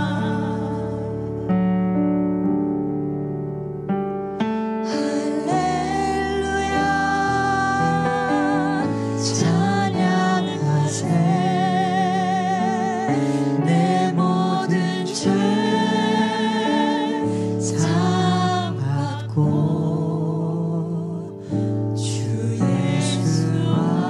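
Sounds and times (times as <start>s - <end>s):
person singing with vibrato: 0.0s - 1.4s, 4.6s - 24.0s
worship band music: 0.0s - 2.7s, 4.3s - 24.0s.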